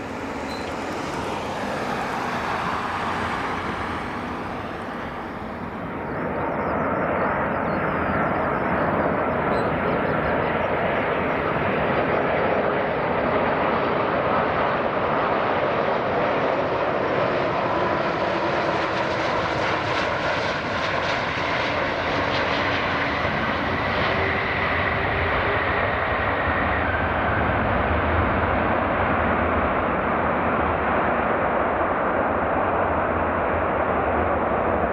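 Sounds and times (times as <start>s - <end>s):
jet engines roaring: 0.0s - 28.8s
faint engine whine: 0.0s - 29.2s.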